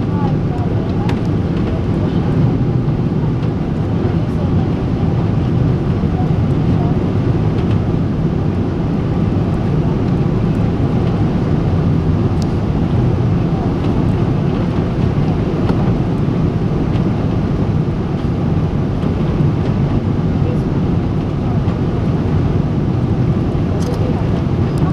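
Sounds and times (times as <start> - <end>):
airliner cabin engine rumble: 0.0 - 24.9.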